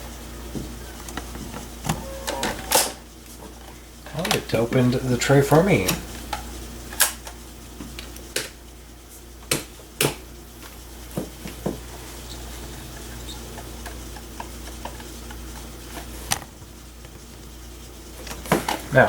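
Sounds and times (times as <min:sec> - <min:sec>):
computer humming: 0:00.0 - 0:19.0.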